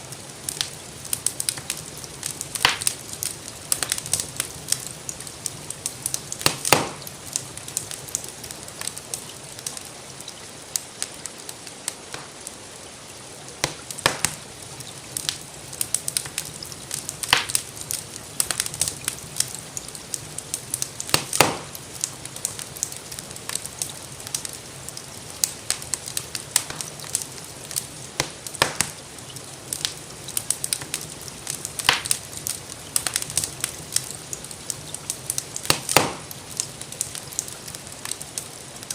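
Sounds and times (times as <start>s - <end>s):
rain hissing: 0.0s - 38.9s
wood fire crackling: 0.0s - 38.9s.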